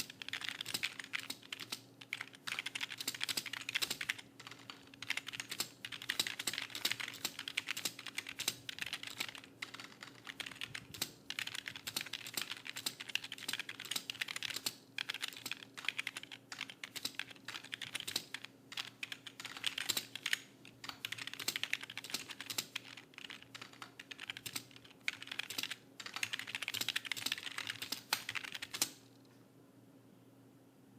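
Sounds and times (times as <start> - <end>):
fast typing on keyboard: 0.0 - 29.0.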